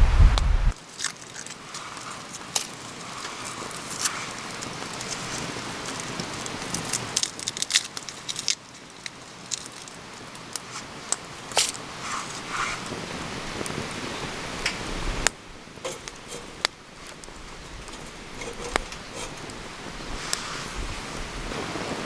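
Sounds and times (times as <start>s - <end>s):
dry wood crackling and snapping: 0.7s - 12.8s, 14.6s - 20.5s.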